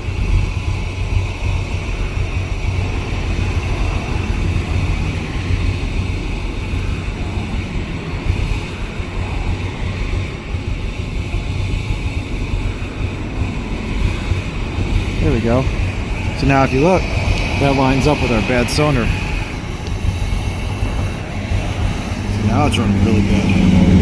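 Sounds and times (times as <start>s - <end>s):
engine cranking on starter: 0.0s - 24.0s.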